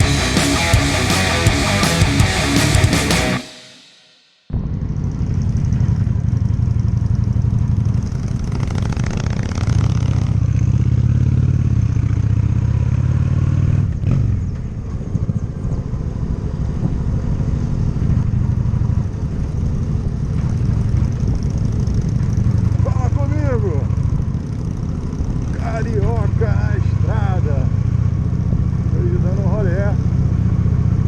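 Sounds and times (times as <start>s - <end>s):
motorcycle engine rumbling: 0.0s - 31.0s.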